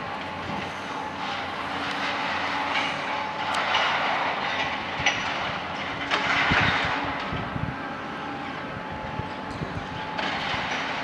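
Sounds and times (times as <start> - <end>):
diesel train running: 0.0 - 11.0
wheels clacking over rails: 0.0 - 11.0.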